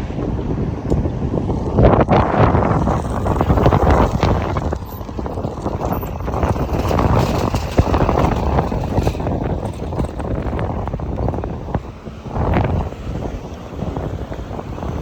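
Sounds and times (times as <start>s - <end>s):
vehicle passing: 0.0s - 15.0s
wind buffeting microphone: 0.0s - 15.0s.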